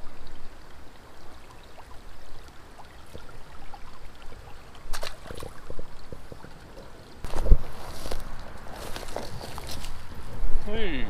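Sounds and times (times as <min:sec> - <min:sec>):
shallow creek flowing: 0:00.0 - 0:11.0.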